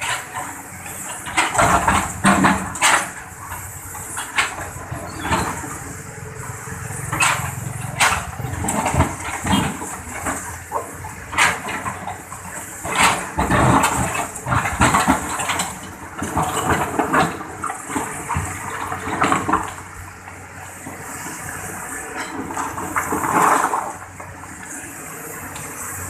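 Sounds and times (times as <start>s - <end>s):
excavator splashing and scraping earth: 0.0s - 26.0s.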